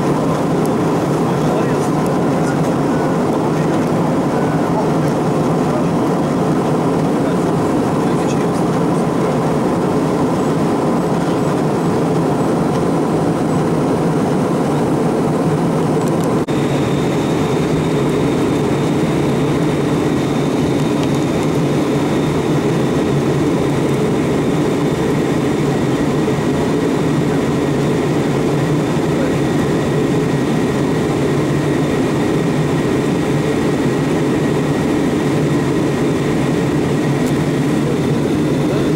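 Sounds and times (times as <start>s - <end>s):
jet engine cabin rush: 0.0s - 38.9s.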